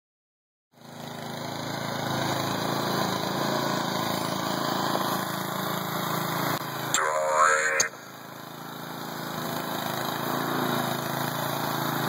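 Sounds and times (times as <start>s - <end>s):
small engine running: 0.8s - 12.0s.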